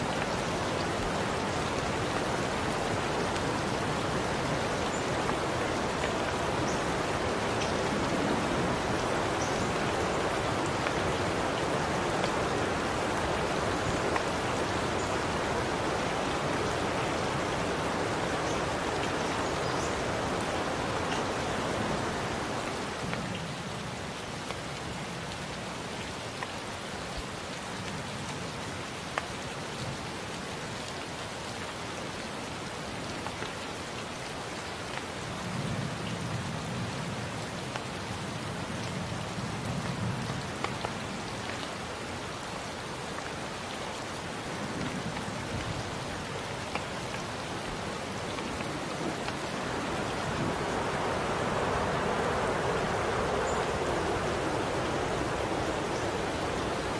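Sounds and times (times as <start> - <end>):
raindrops ticking close by: 0.0 - 56.9
steady rain falling: 0.0 - 56.9.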